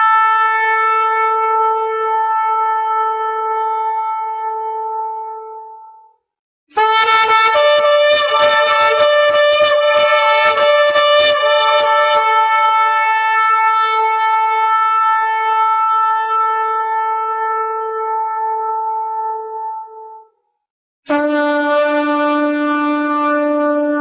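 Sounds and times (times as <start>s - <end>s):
shofar blast: 0.0s - 5.7s, 6.8s - 20.2s, 21.1s - 24.0s.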